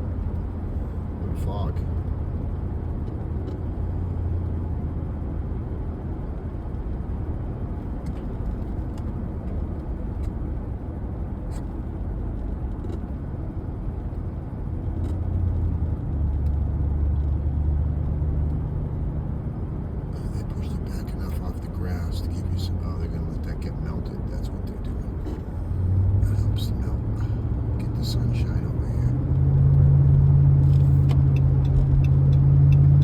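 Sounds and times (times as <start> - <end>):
road and engine rumble: 0.0 - 33.0.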